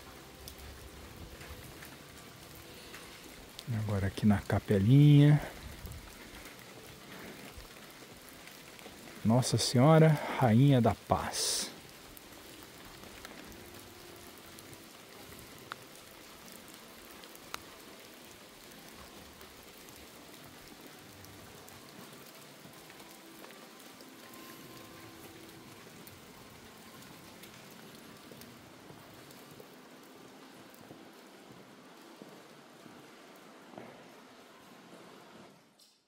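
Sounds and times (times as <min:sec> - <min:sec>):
faint rain-like hiss: 0:00.0 - 0:36.0.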